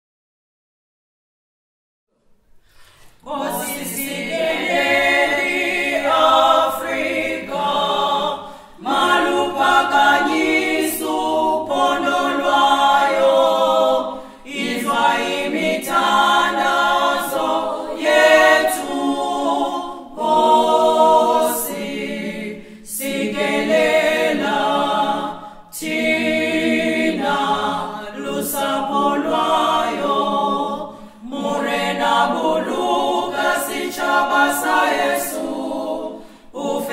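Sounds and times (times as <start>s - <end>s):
choir singing a cappella: 3.0s - 36.9s.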